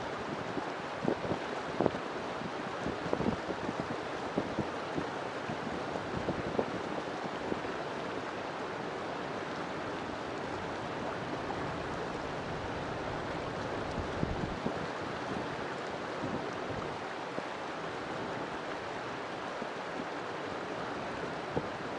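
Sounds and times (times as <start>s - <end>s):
river water rushing: 0.0s - 21.9s.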